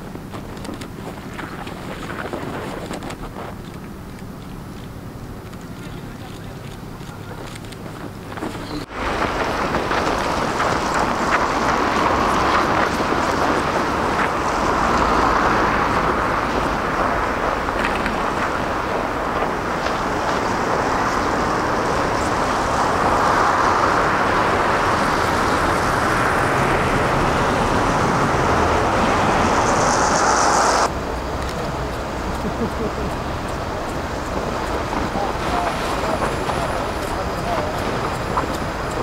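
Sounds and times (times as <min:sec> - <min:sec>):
street noise: 0:00.0 - 0:39.0
tram rolling on rails: 0:00.0 - 0:39.0.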